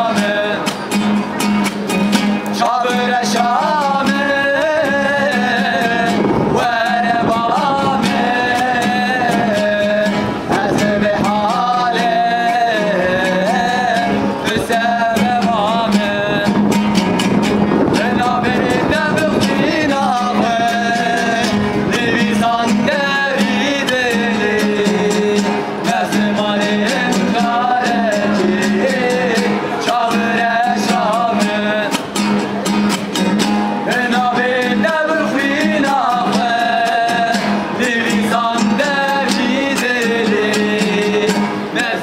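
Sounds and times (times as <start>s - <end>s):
men singing folk song: 0.0s - 1.2s, 2.3s - 32.4s, 33.5s - 42.0s
strummed guitars: 0.0s - 42.0s.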